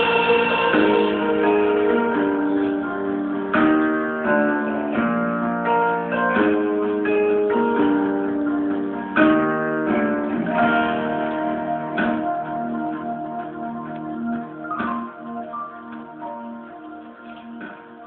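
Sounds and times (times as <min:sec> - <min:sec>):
plucked string chords: 0:00.0 - 0:18.0.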